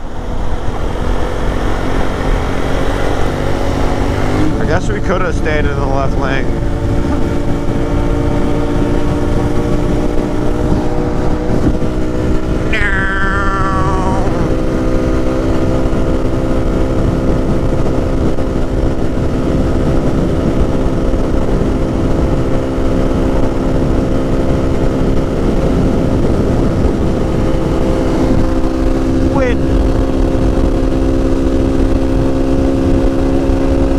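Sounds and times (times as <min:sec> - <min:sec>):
motorcycle engine cruising: 0:00.0 - 0:33.9
wind rumble on microphone: 0:00.0 - 0:33.9.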